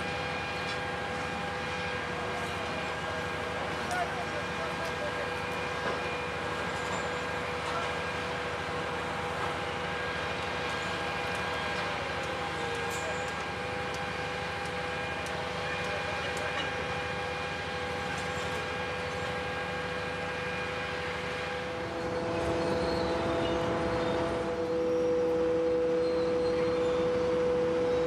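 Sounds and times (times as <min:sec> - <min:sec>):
crane engine running: 0:00.0 - 0:28.0.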